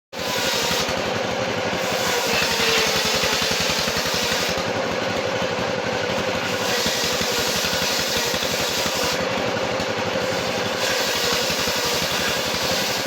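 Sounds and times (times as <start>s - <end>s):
sawmill engine running: 0.2s - 13.0s.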